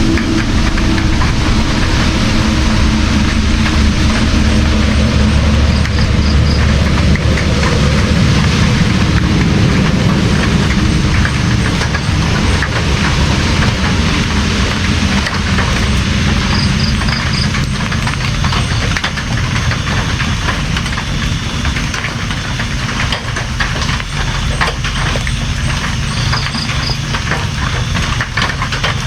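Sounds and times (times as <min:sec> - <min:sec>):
loud rainfall: 0:00.0 - 0:29.0
low rumble: 0:00.0 - 0:29.0.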